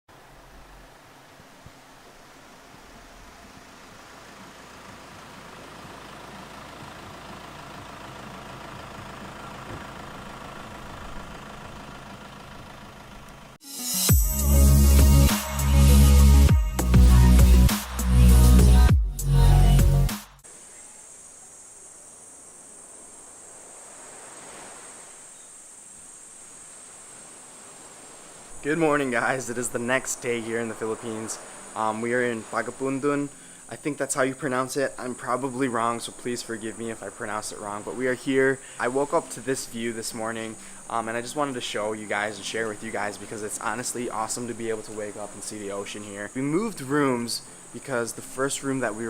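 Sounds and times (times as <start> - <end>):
vehicle engine idling: 0.1 - 23.7, 25.5 - 49.0
soft outdoor hiss: 0.1 - 49.0
crickets chirring: 0.2 - 12.5, 20.4 - 49.0.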